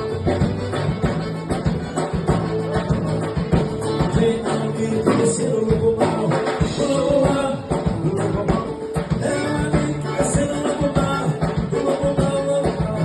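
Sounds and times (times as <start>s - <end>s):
steady percussive beat: 0.0s - 13.0s.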